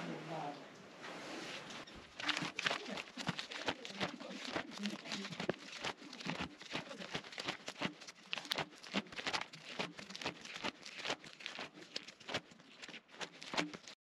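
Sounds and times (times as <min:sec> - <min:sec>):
plastic sheets crinkling: 0:01.7 - 0:14.0.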